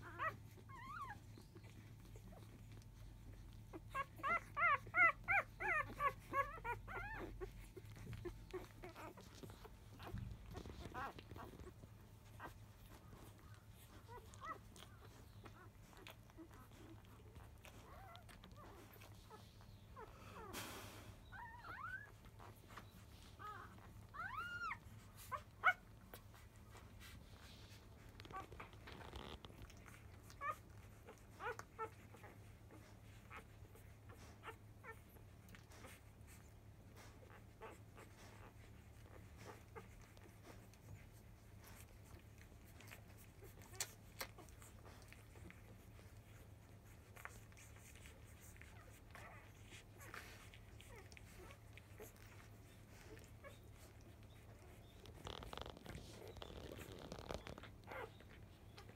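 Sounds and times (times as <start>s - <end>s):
puppies squeaking: 0.0s - 20.5s, 21.1s - 58.9s
rustle: 0.0s - 58.9s.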